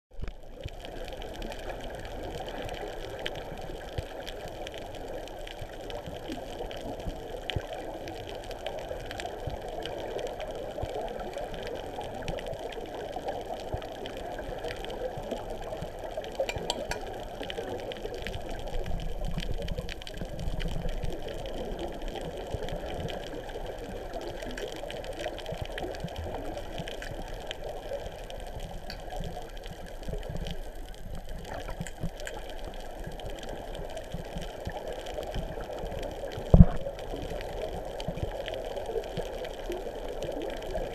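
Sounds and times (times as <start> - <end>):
muffled underwater water rush: 0.1 - 40.9
faint clicks: 0.2 - 40.9.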